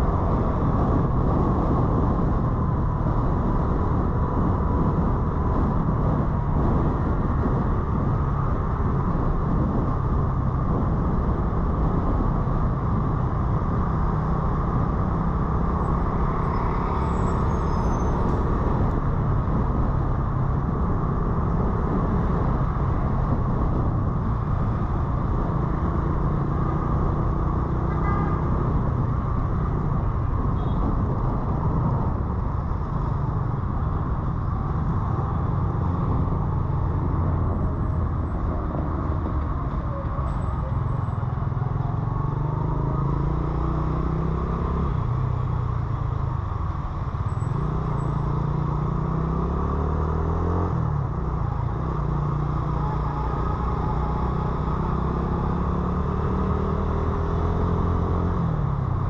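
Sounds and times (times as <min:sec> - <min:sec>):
motorcycle engine and road noise: 0:00.0 - 0:59.0
surrounding vehicles: 0:00.0 - 0:59.0.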